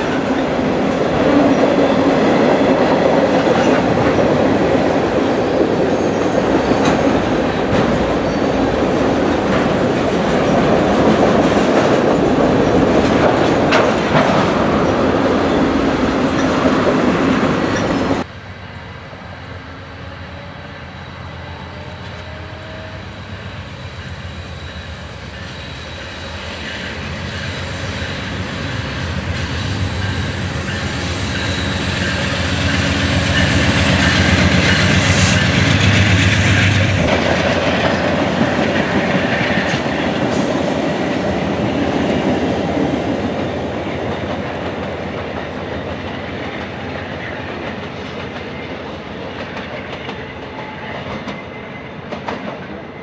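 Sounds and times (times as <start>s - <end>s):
diesel locomotive engine passing: 0.0s - 53.0s
train cars rolling past: 0.0s - 53.0s.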